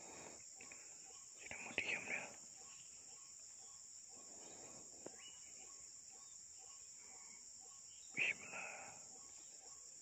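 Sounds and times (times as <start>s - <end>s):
crickets and insects trilling: 0.0s - 10.0s.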